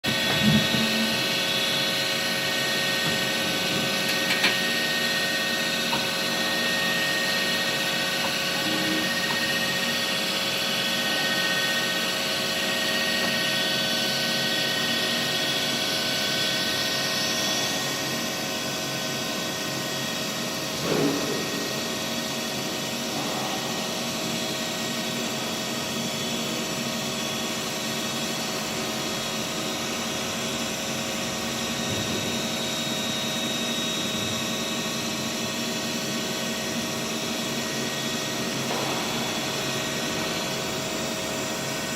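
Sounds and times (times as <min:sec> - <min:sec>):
lathe mechanical whine: 0:00.1 - 0:41.9.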